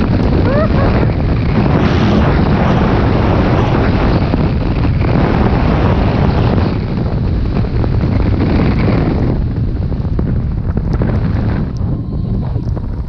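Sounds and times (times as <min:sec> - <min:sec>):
snowboard sliding over snow: 0:00.0 - 0:11.7
wind buffeting microphone: 0:00.0 - 0:13.0.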